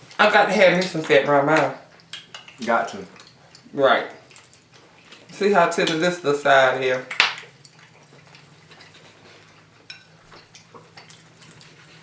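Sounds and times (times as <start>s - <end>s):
person chewing: 0.8s - 6.0s, 7.1s - 12.0s.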